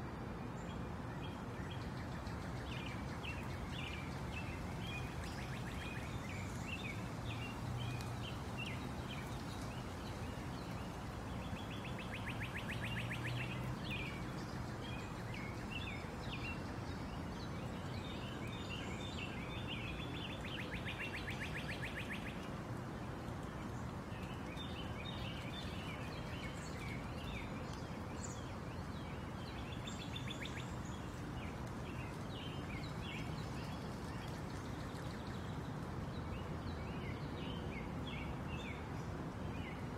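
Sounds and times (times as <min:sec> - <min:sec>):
wind and water rushing: 0:00.1 - 0:39.9.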